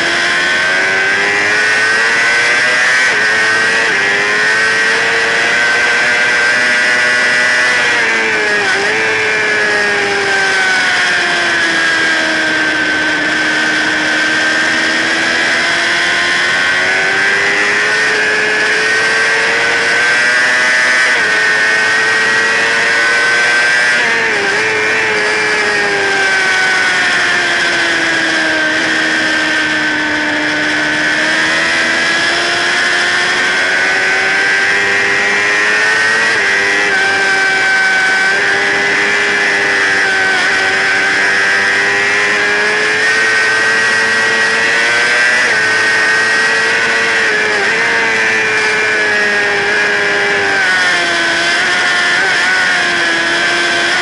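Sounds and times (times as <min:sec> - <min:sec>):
sport bike engine at high revs: 0:00.0 - 0:54.0.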